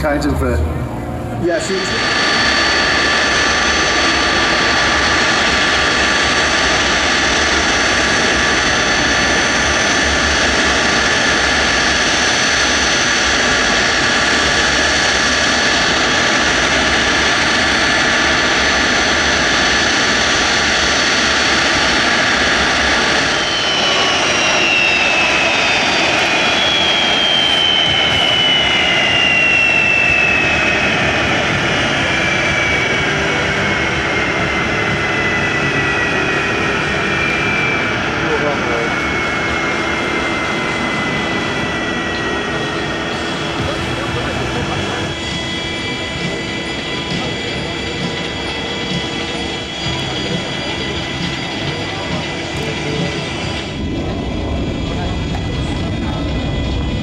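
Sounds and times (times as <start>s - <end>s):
jet aircraft flying past: 0.0s - 57.0s.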